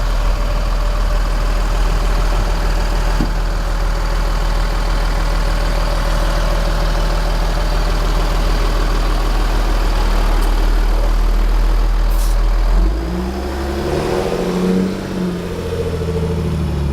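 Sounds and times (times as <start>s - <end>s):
diesel truck engine running: 0.0s - 16.9s.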